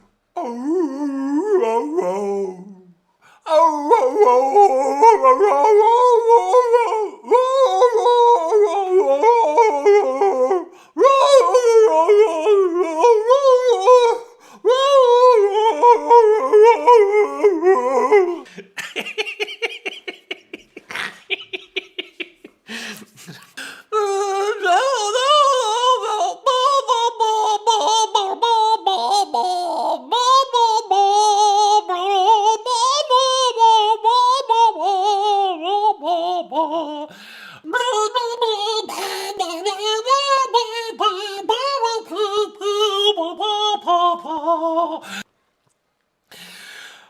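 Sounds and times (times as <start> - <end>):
man making high wavering vocal noises: 0.4 - 45.3.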